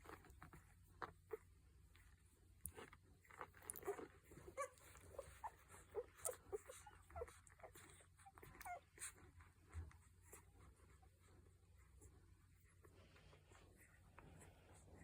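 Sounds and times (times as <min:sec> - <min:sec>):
puppy whimpering and squeaking: 0:00.0 - 0:12.2.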